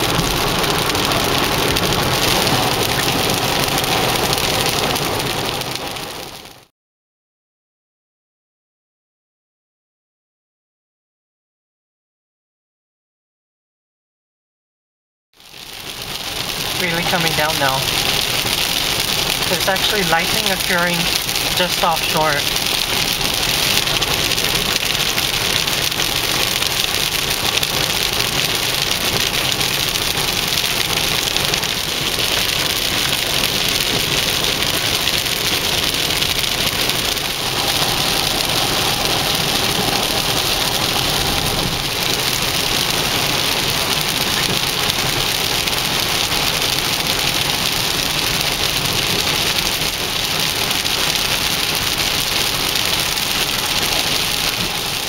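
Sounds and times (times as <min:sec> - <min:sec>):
heavy rain on car windshield: 0:00.0 - 0:06.7, 0:15.4 - 0:55.0
tyres on wet road: 0:00.0 - 0:06.7, 0:15.4 - 0:55.0.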